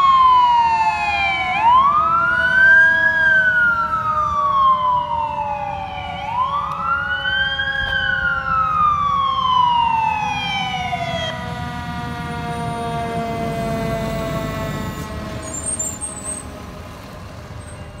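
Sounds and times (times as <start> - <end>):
fire engine siren wailing: 0.0 - 18.0
truck engine rumble: 0.0 - 18.0.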